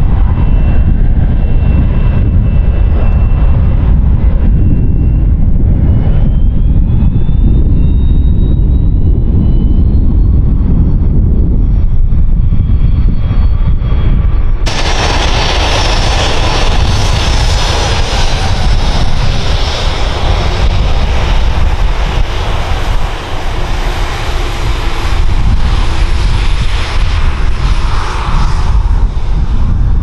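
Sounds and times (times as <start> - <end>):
high jet engine whine: 0.0 - 30.0
jet engines rumbling: 0.0 - 30.0.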